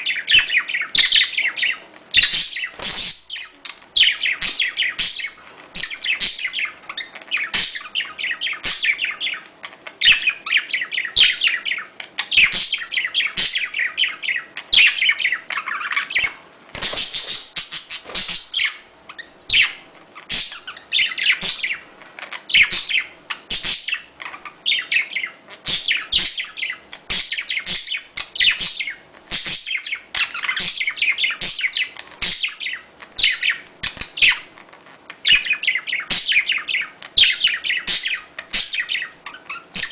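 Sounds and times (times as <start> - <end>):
budgerigars chattering and warbling: 0.0 - 34.5, 35.2 - 39.9.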